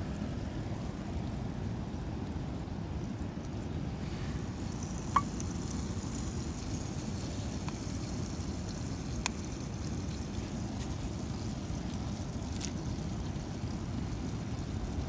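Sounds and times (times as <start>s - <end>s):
wood fire crackling: 0.8s - 15.0s.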